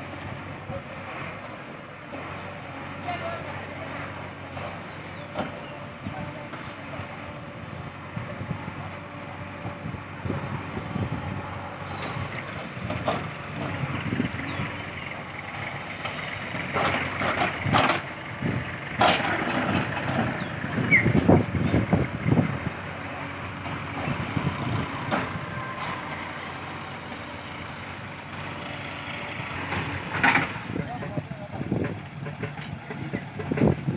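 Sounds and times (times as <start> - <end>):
diesel engine hum: 0.0 - 33.9.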